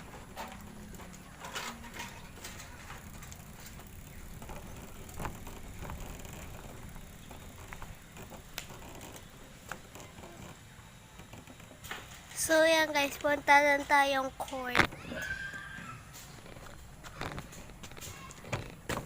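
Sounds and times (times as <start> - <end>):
bicycle tyres rolling: 0.0 - 19.0
bike clicks and rattles: 0.0 - 19.0.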